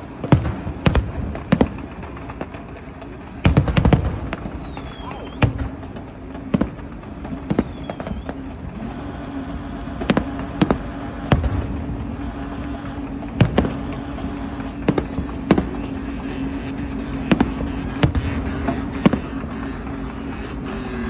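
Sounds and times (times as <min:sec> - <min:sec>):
background rumble: 0:00.0 - 0:21.0
fireworks bangs: 0:00.0 - 0:21.0
low hum: 0:00.0 - 0:21.0.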